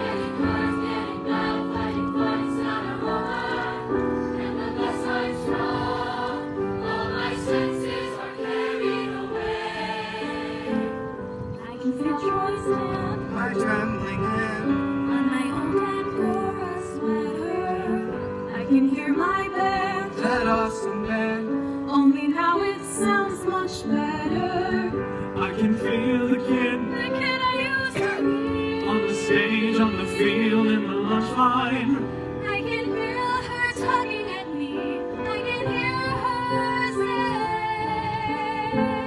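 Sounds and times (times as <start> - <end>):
choir singing a slow ballad: 0.0 - 11.5, 12.1 - 39.0
piano: 0.0 - 39.0.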